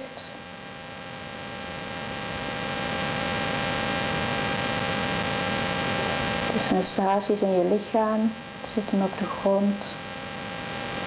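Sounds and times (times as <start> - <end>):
background hiss: 0.0 - 11.0
electrical hum: 0.0 - 11.0.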